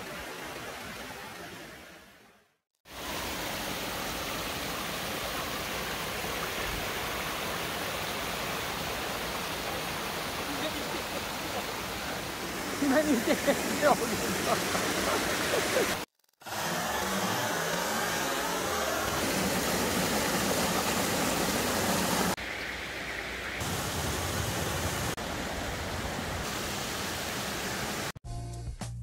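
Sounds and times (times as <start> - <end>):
creek water splashing over rocks: 0.0 - 2.2, 2.8 - 28.2.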